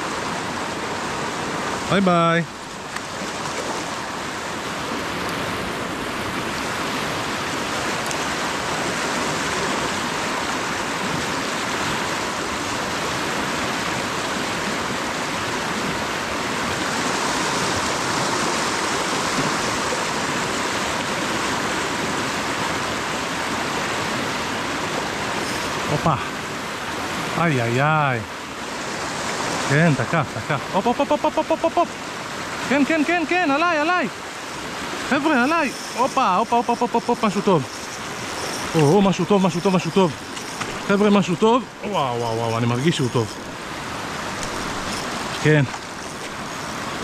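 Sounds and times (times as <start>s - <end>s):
rushing river water: 0.0s - 47.0s.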